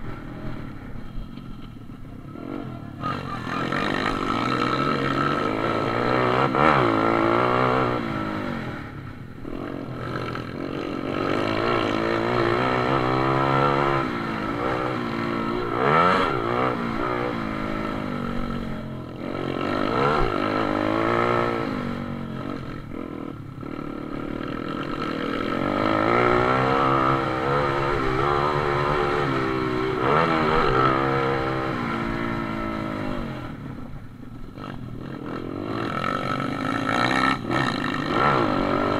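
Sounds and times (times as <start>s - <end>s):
small motorcycle engines revving: 2.3s - 38.9s.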